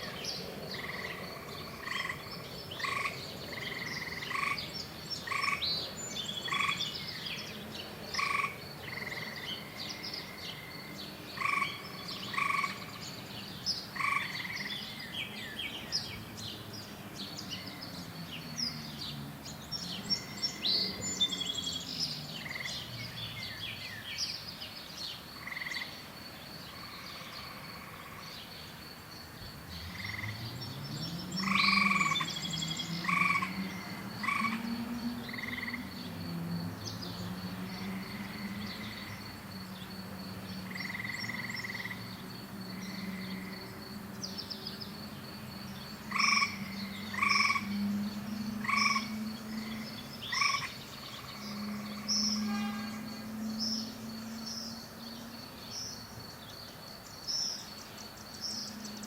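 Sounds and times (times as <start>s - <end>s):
birds chirping: 0.0s - 59.0s
frogs croaking: 0.0s - 59.0s
high insect drone: 0.0s - 59.0s.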